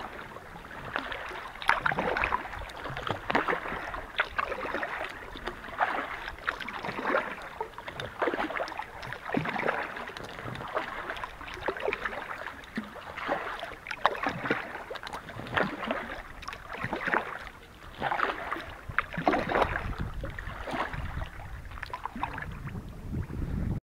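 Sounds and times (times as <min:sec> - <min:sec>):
kayak paddle splashing: 0:00.0 - 0:23.4.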